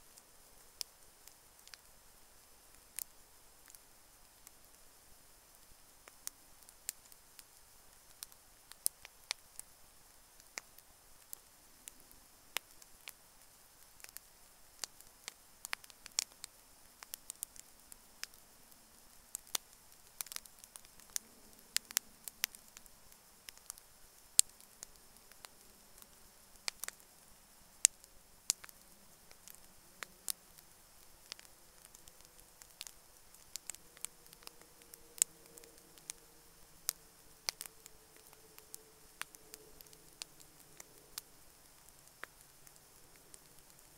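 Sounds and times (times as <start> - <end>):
campfire crackling: 0.0 - 43.9
faint steady hiss: 0.0 - 43.9.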